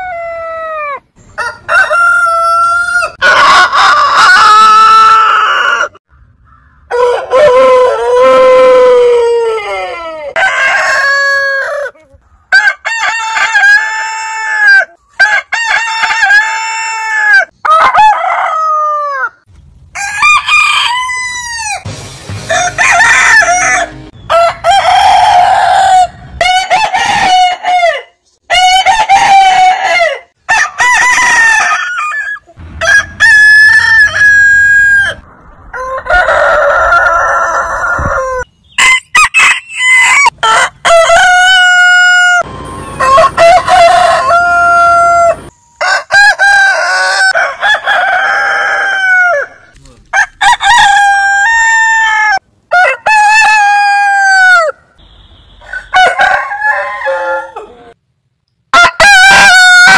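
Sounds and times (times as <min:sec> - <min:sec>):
roosters crowing: 0:00.0 - 0:58.0, 0:58.7 - 0:59.9.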